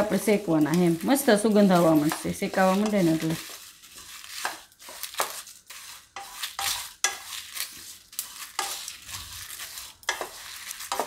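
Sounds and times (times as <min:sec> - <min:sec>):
spatula scraping spices in pan: 0:00.0 - 0:11.0.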